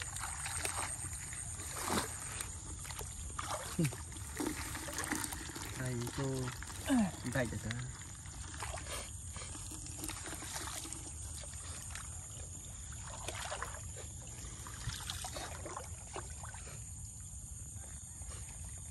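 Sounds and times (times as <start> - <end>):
wet grass rustling: 0.0 - 16.8
shallow water sloshing and splashing: 0.0 - 17.2.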